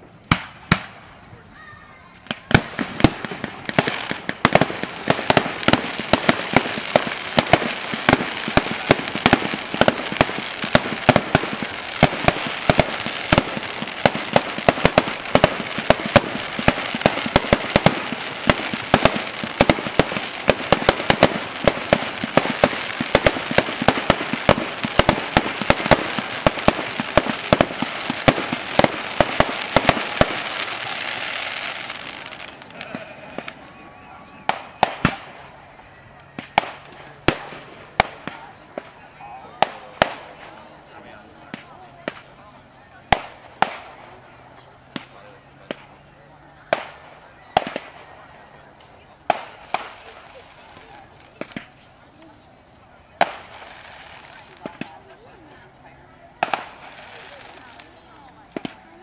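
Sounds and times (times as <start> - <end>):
fireworks bangs: 0.0 - 59.0
fireworks launch rush and crackle: 0.0 - 59.0.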